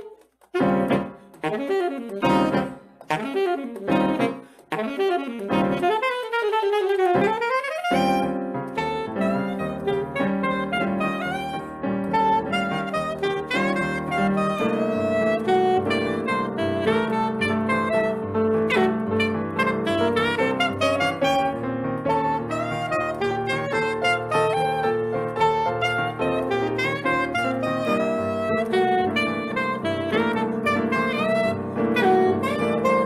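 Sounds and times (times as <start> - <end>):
piano: 0.0 - 33.0
tenor saxophone melody: 0.0 - 33.0.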